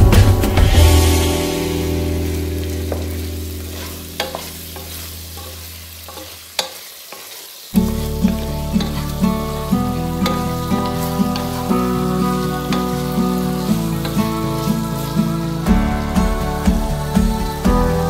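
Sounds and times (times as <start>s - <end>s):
background music: 0.0s - 5.1s, 7.8s - 18.0s
chicken sizzling in a pot: 0.0s - 18.0s.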